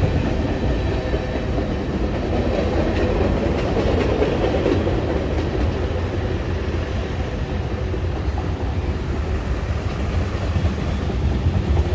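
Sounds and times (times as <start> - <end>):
diesel train rumbling: 0.0 - 11.9.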